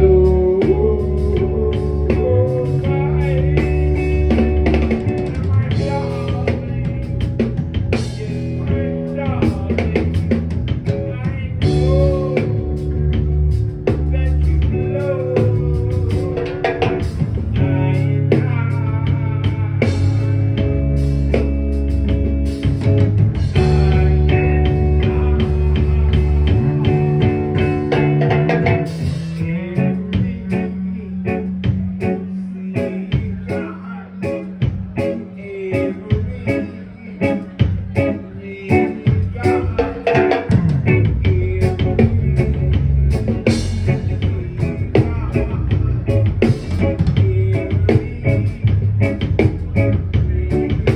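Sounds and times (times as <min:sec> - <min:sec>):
drums: 0:00.0 - 0:50.9
guitar: 0:00.0 - 0:50.9.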